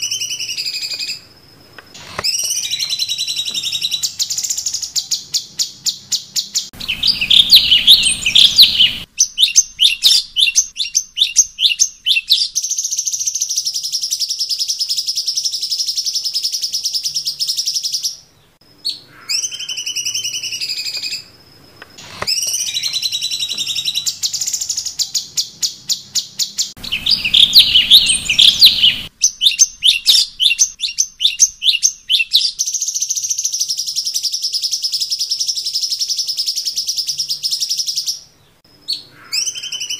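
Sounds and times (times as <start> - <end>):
bird sharp chirps: 0.0 - 21.4, 22.0 - 39.9
bird high trill: 2.0 - 21.4, 22.0 - 39.9.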